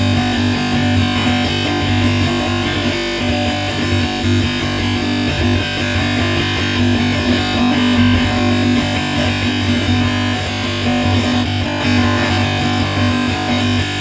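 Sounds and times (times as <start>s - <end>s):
stuttering electronic drone: 0.0s - 14.0s.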